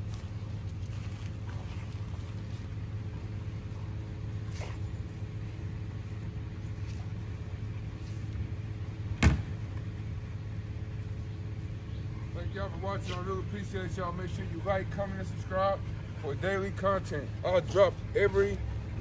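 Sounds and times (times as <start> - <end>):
low outdoor hum: 0.0 - 19.0.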